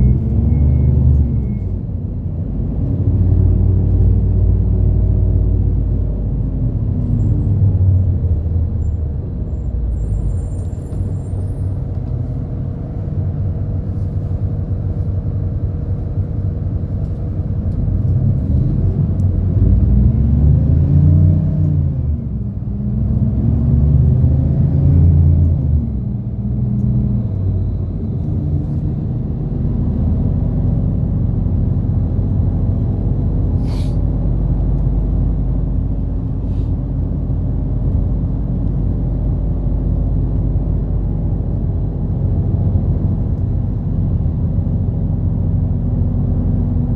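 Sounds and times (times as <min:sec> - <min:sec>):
bus diesel engine revving: 0:00.0 - 0:46.9.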